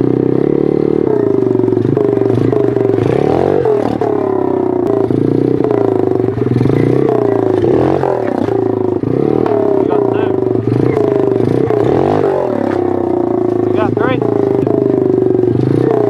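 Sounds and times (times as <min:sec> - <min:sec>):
bike knocking and rattling: 0:00.0 - 0:16.0
motorbike engine revving: 0:00.0 - 0:16.0.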